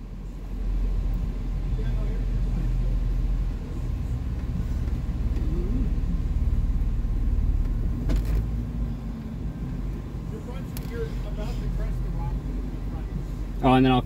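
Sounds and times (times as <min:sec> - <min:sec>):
engine running low: 0:00.0 - 0:14.0.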